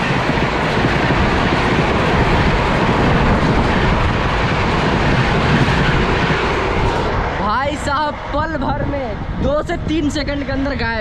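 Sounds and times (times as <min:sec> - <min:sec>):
train coaches passing: 0:00.0 - 0:11.0.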